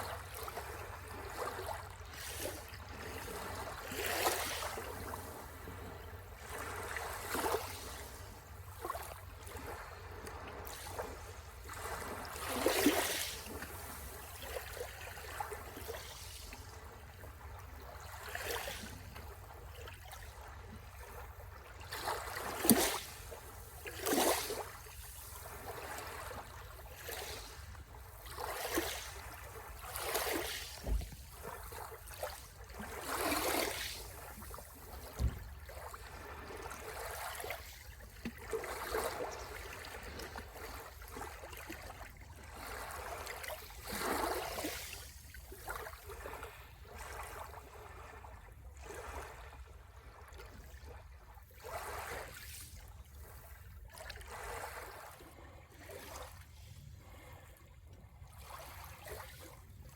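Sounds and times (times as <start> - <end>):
small waves splashing at shore: 0.0 - 59.9.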